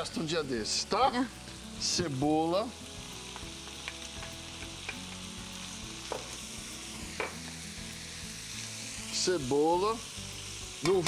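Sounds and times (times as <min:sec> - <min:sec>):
meat and onion sizzling in pan: 0:00.0 - 0:11.0.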